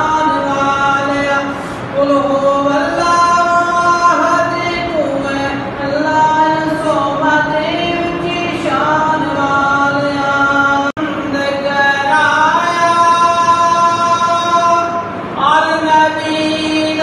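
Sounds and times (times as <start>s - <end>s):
chanted singing in long notes: 0.0s - 17.0s.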